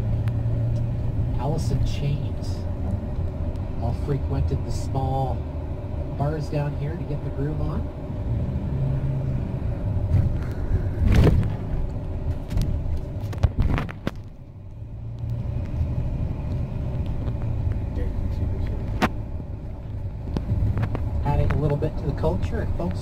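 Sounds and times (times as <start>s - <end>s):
coach engine and road rumble: 0.0s - 23.0s.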